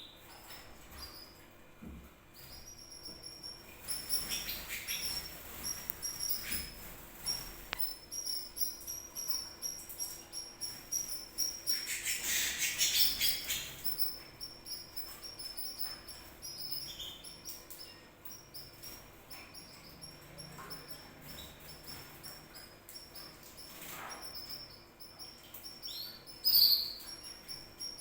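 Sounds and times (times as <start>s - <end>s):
canary singing trills: 2.3s - 28.0s.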